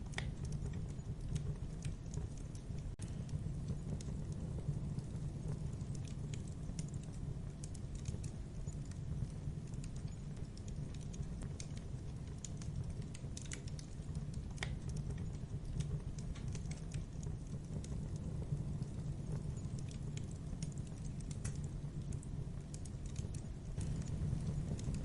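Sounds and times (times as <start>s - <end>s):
campfire crackling and popping: 0.0s - 25.0s
low rumble of burning fire: 0.0s - 25.0s.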